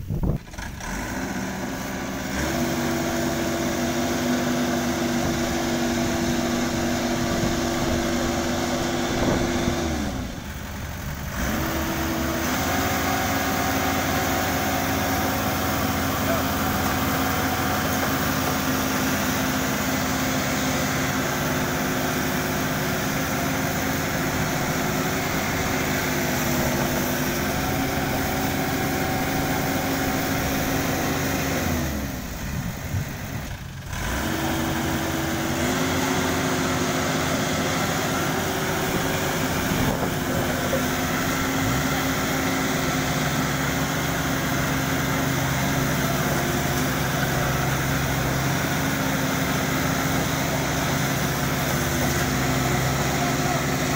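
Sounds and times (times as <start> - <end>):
combine harvester engines running: 0.0 - 53.9.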